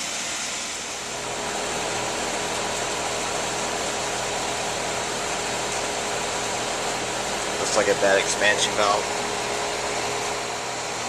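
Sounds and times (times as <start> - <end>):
air conditioner fan rushing: 0.0 - 11.0
low compressor hum: 0.0 - 11.0.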